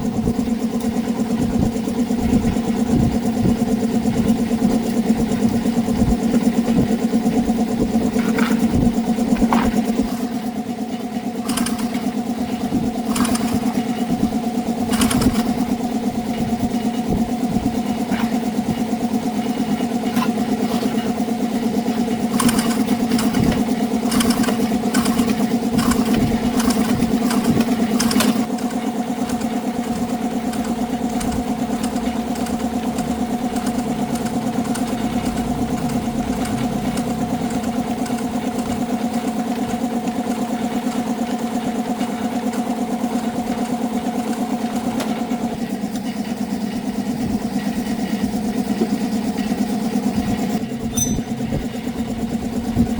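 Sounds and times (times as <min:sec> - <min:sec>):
motorbike engine idling: 0:00.0 - 0:52.9.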